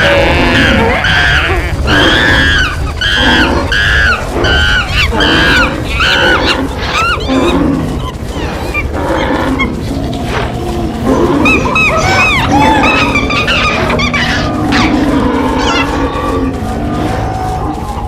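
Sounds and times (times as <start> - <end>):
animal calls: 0.0 - 18.0
low rumble: 0.0 - 18.0.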